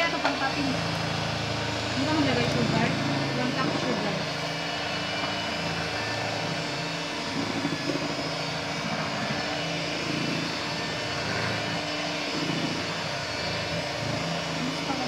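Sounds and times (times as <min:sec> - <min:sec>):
electric mixer whisking in plastic bowl: 0:00.0 - 0:15.0.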